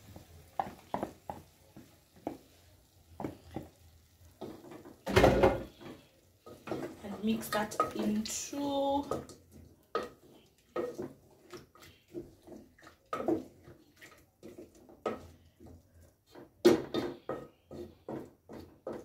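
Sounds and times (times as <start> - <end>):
wooden spoon stirring stew in pot: 0.0 - 19.0.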